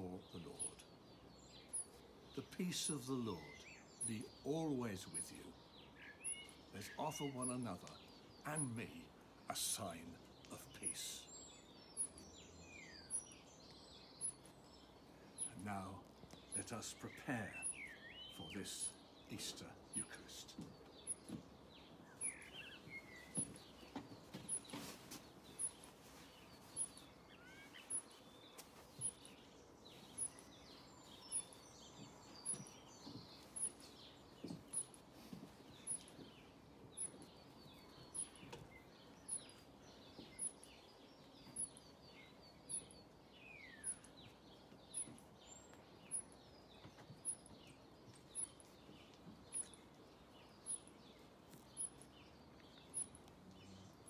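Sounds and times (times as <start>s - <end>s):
garden birds chirping and singing: 0.0s - 54.0s.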